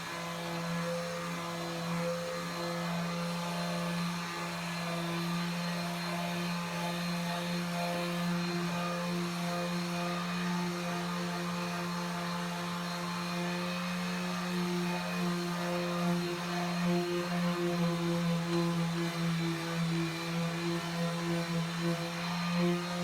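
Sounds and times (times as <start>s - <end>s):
electric power sander humming: 0.0s - 23.0s.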